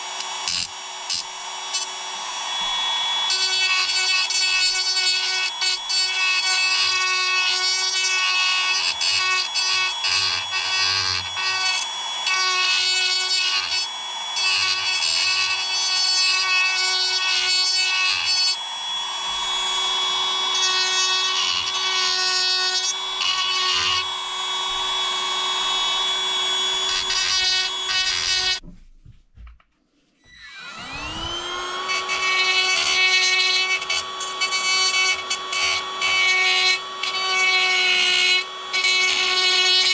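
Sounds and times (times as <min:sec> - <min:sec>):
electric power tool whining: 0:00.0 - 0:28.6, 0:30.2 - 0:39.9.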